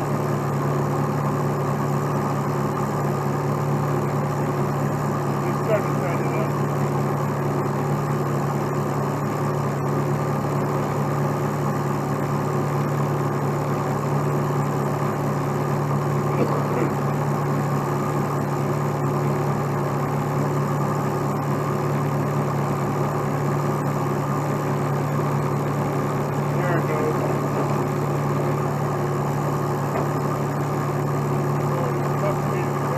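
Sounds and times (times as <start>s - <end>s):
truck engine humming: 0.0s - 32.9s.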